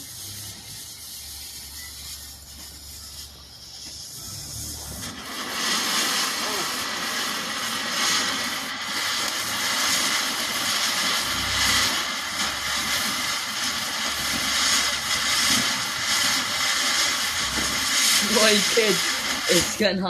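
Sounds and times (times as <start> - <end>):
bonfire hissing and crackling: 0.0 - 20.0.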